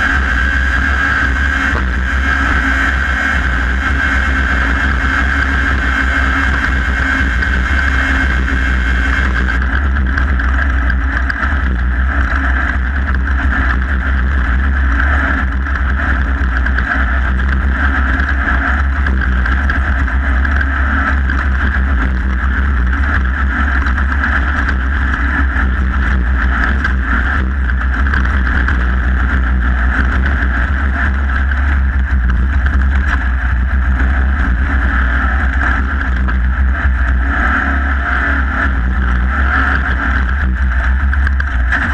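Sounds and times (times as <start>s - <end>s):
vehicle engine at speed: 0.0s - 41.9s
vehicle rattling: 0.0s - 41.9s
wind: 0.0s - 41.9s.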